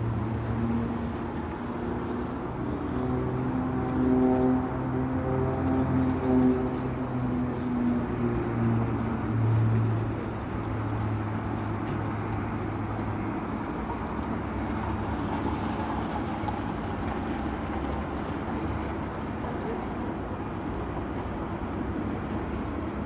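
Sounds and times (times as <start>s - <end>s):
propeller aircraft engine droning: 0.0s - 23.0s.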